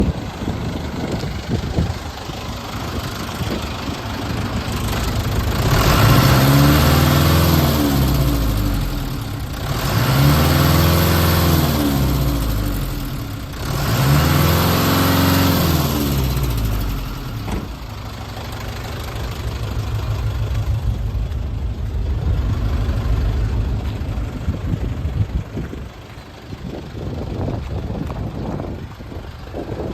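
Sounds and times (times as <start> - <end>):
diesel engine idling and revving: 0.0 - 29.9.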